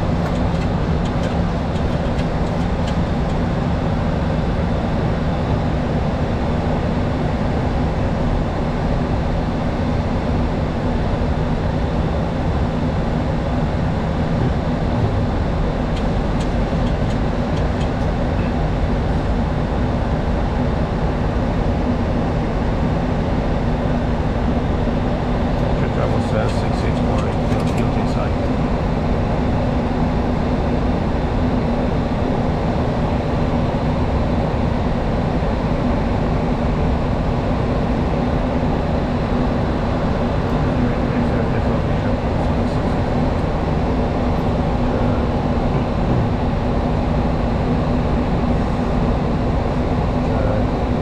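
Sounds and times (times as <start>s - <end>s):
engine drone: 0.0s - 51.0s
low steady hum: 0.0s - 51.0s.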